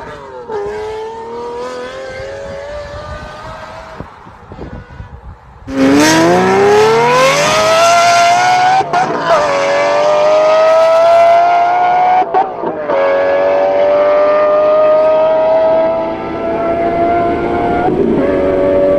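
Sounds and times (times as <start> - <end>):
car engine at full throttle: 0.0 - 18.9.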